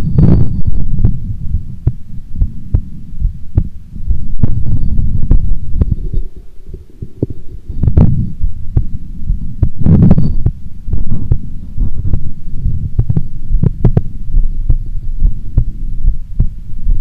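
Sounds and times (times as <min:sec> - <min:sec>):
heartbeat thumps: 0:00.0 - 0:17.0
noisy swells: 0:00.0 - 0:17.0.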